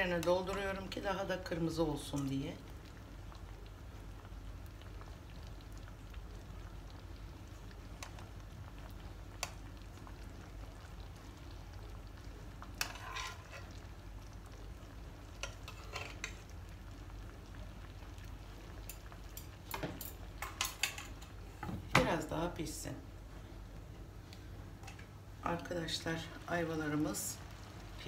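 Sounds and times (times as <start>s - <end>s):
syrup bubbling in a pan: 0.0s - 21.6s, 23.2s - 28.0s.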